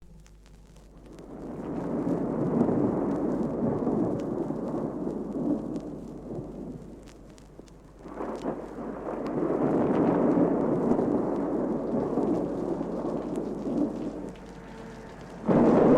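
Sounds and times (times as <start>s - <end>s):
rain: 0.0s - 15.9s
rolling thunder: 0.9s - 15.9s.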